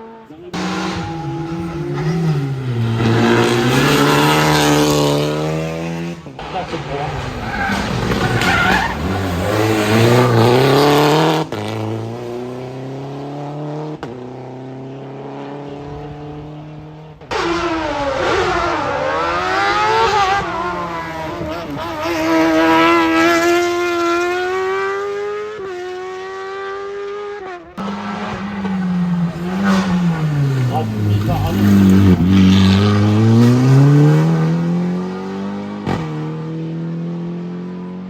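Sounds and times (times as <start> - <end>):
race car engines accelerating: 0.0 - 38.0.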